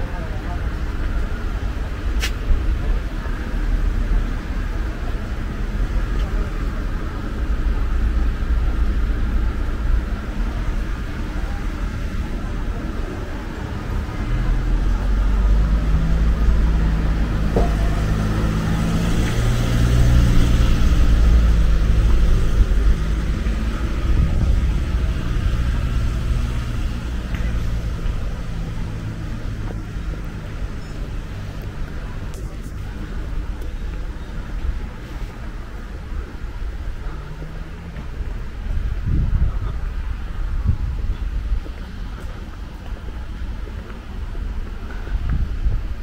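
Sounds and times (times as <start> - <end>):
vehicle engine running: 0.0 - 45.8
steady low rumble: 0.0 - 46.0.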